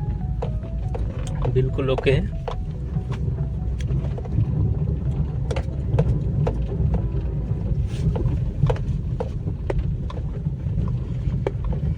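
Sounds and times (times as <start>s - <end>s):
car engine low rumble: 0.0s - 11.9s
wind buffeting microphone: 0.0s - 11.9s.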